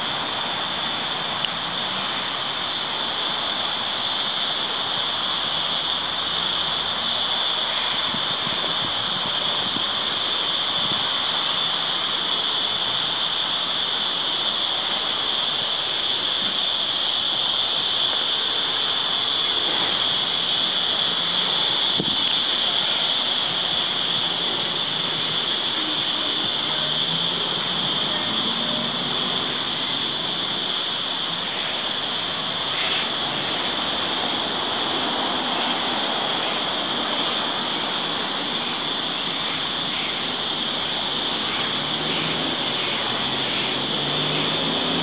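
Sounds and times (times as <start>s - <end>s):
cicada chorus: 0.0s - 45.0s
rushing background noise: 0.0s - 45.0s.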